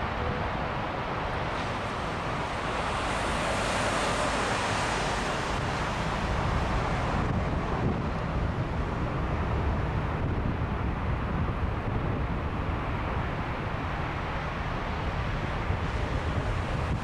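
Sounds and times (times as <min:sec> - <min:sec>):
jet engines rushing hiss: 0:00.0 - 0:17.0
wind buffeting microphone: 0:00.0 - 0:17.0.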